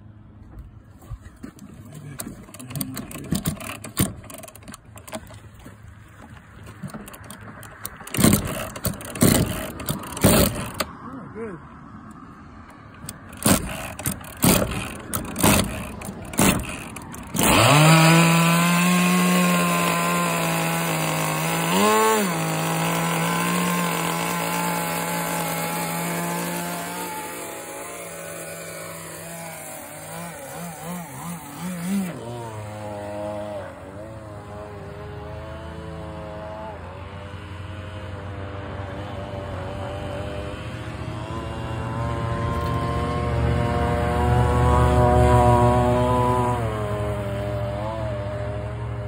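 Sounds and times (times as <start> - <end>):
two-stroke model engine running: 1.8 - 5.4, 6.8 - 11.0, 12.9 - 49.0.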